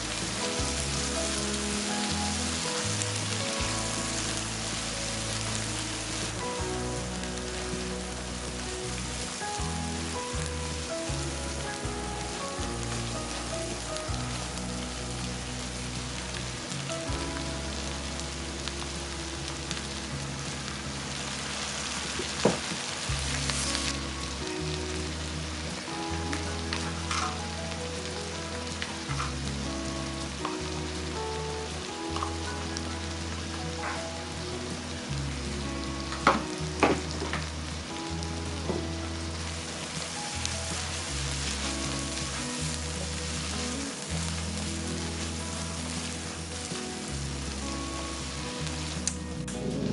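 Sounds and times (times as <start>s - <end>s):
food sizzling in oil: 0.0s - 49.9s.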